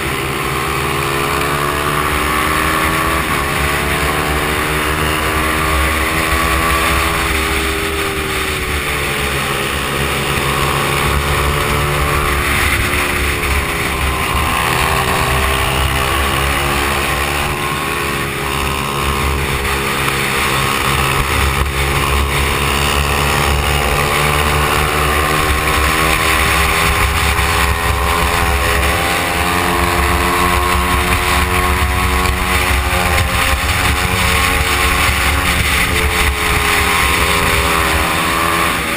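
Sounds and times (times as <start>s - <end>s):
mini bike engine revving: 0.0s - 38.9s
steady rushing noise: 0.0s - 38.9s.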